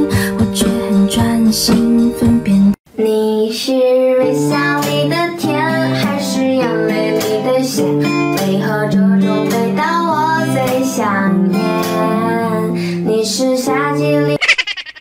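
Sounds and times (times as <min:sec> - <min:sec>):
pop song: 0:00.0 - 0:14.4.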